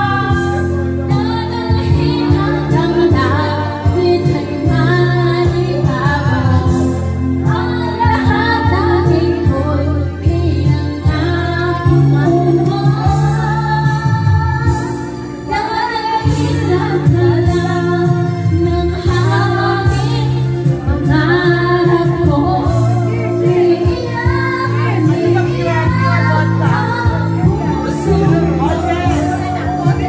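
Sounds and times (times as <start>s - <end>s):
backing track with steady beat: 0.0s - 30.0s
woman singing into a microphone: 0.0s - 30.0s.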